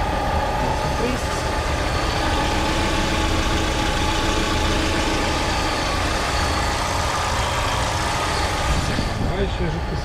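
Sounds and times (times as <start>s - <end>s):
petrol engine idling: 0.0s - 10.0s.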